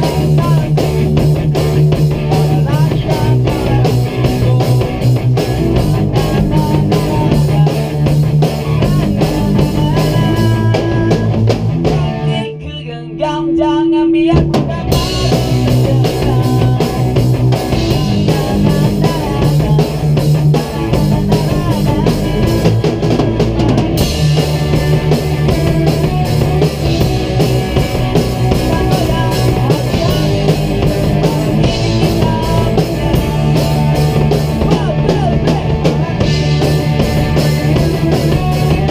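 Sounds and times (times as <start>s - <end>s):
drum kit: 0.0s - 38.9s
electric guitars: 0.0s - 38.9s.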